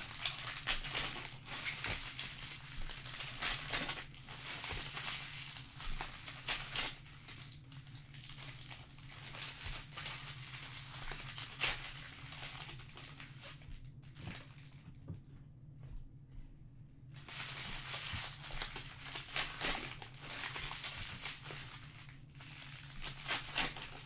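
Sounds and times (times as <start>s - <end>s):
plastic wrappers crinkling: 0.0s - 14.9s, 17.2s - 24.0s.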